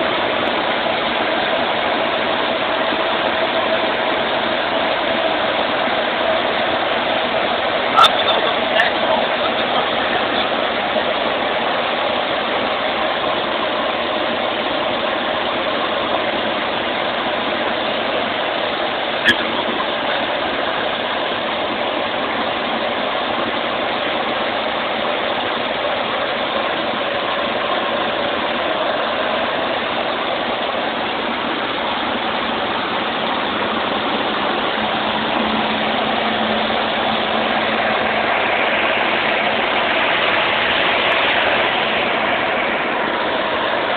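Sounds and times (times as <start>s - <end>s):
airplane engine and propeller drone: 0.0s - 43.9s.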